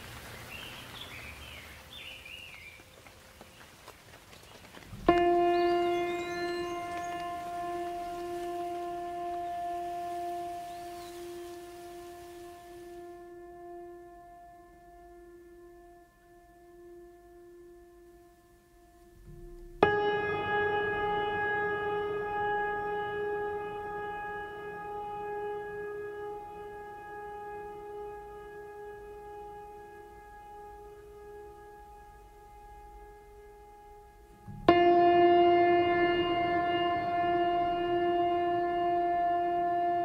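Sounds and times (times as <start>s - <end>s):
singing bowl ringing tones: 5.0s - 40.0s.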